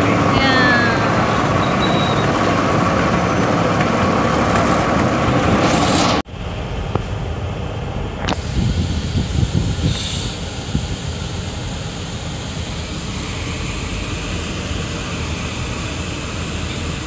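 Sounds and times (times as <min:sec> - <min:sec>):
ride vehicle rumbling: 0:00.0 - 0:17.0.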